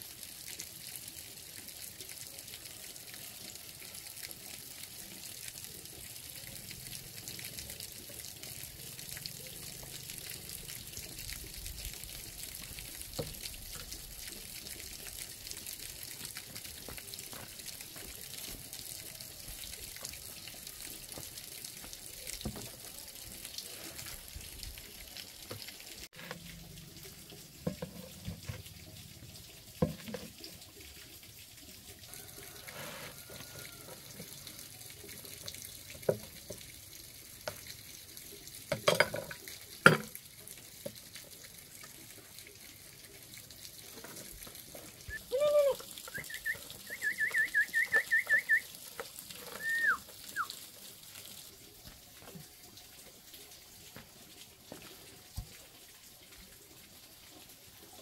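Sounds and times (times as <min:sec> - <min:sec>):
water running: 0:00.6 - 0:58.0.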